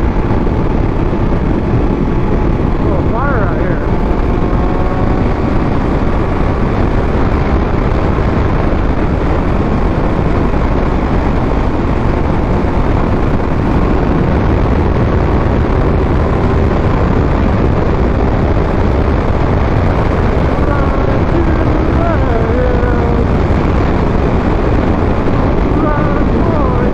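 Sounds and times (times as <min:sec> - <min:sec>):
motorcycle engine running: 0:00.0 - 0:26.9
wind rush on microphone: 0:00.0 - 0:26.9.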